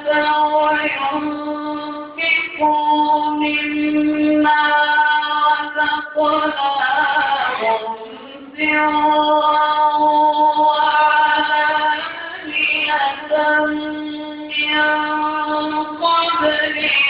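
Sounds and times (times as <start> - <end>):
man reciting in melodic style: 0.0 - 17.0.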